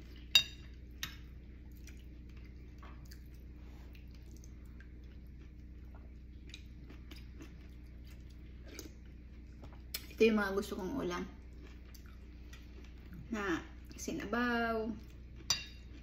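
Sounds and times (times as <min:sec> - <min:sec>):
soft chewing: 0:00.0 - 0:10.2, 0:11.2 - 0:14.1, 0:14.8 - 0:16.0.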